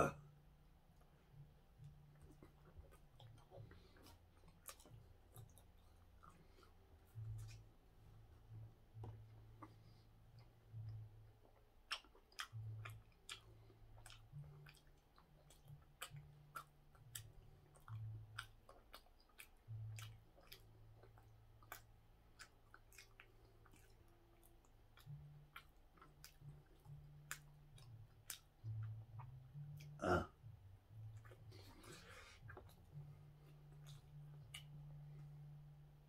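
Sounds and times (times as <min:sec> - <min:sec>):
faint low hum: 0:00.0 - 0:36.0
person chewing with mouth clicks: 0:01.4 - 0:35.7.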